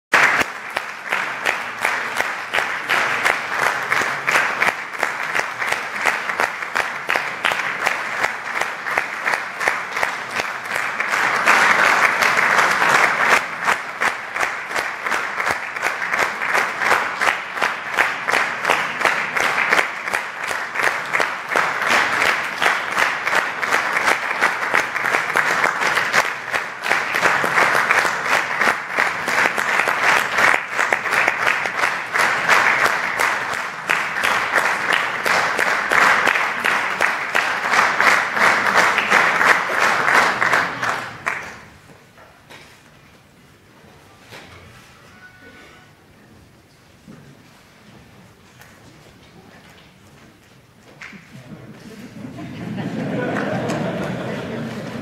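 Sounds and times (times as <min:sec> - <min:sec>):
audience applauding: 0:00.1 - 0:41.8, 0:50.9 - 0:55.0.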